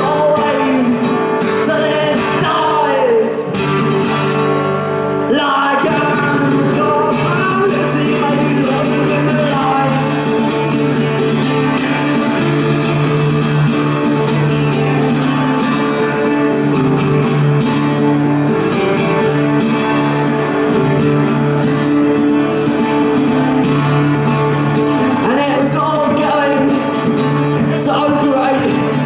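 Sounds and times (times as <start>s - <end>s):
guitar strumming chords: 0.0s - 29.0s.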